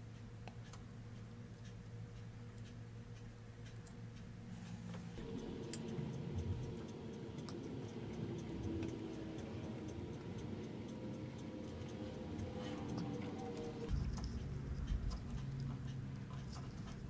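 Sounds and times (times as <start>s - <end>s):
low steady hum: 0.0s - 17.0s
flux ticking and crackling: 0.1s - 17.0s.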